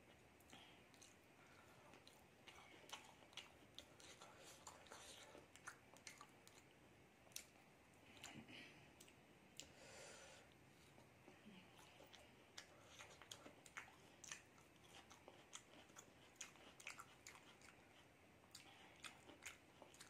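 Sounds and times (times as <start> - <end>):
person chewing with mouth clicks: 0.0 - 9.8, 11.7 - 20.0.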